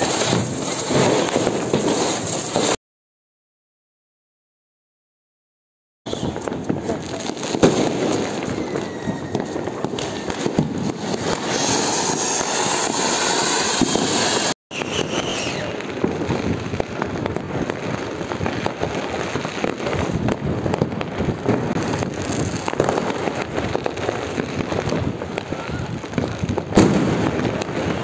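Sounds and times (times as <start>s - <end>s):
distant firecrackers popping: 0.0s - 2.8s, 6.1s - 28.0s
ground fireworks hissing and sputtering: 0.0s - 2.8s, 6.1s - 28.0s.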